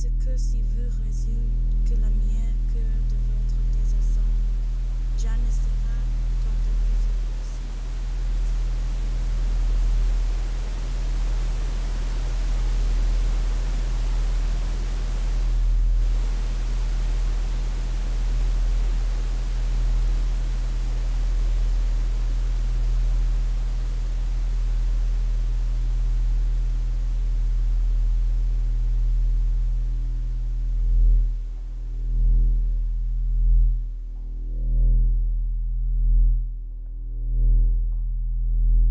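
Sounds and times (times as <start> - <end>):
static hiss: 0.0 - 34.4
deep low hum: 0.0 - 38.9.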